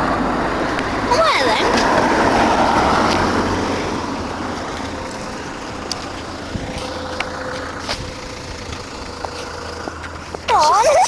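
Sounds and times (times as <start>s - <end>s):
road vehicle passing: 0.0s - 11.0s
traffic background: 0.0s - 11.0s.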